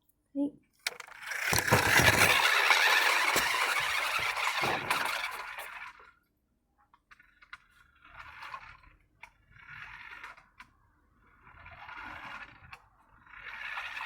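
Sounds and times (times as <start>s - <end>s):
remote control car driving: 0.8s - 6.2s, 6.9s - 14.0s.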